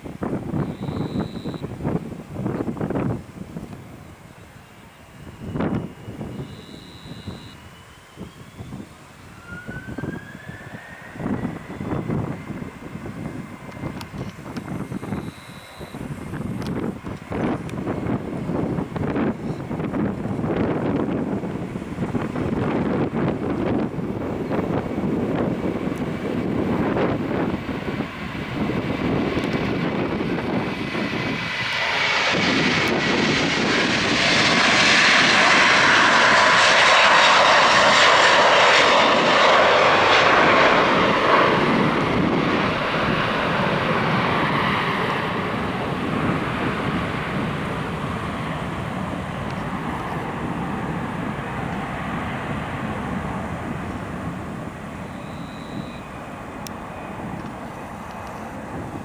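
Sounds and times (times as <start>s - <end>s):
jet airliner roar: 0.0s - 59.0s.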